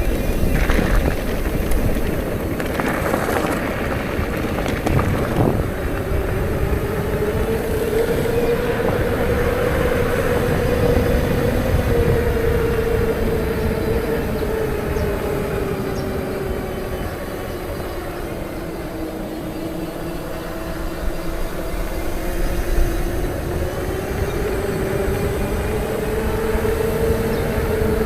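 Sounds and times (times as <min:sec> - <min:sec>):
low rumbling wind noise: 0:00.0 - 0:28.0.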